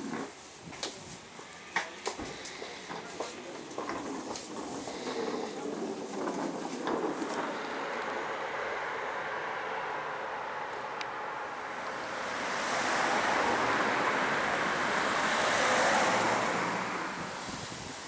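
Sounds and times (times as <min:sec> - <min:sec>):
car passing: 0:02.0 - 0:18.0.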